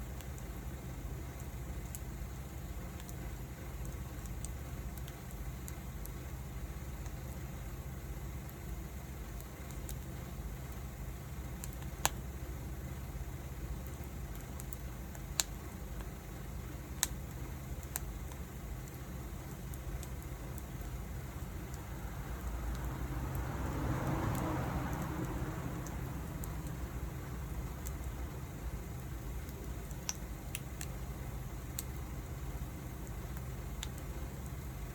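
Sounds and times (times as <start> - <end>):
fire popping: 0.0 - 34.9
wood fire burning: 0.0 - 34.9.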